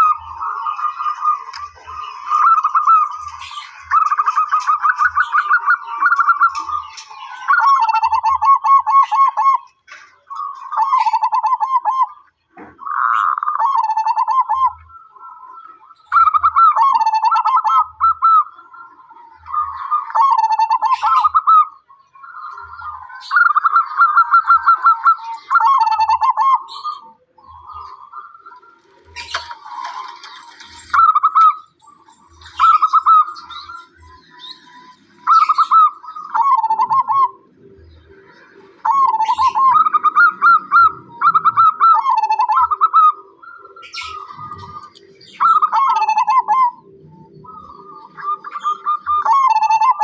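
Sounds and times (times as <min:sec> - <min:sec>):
dove cooing: 0:00.0 - 0:50.0.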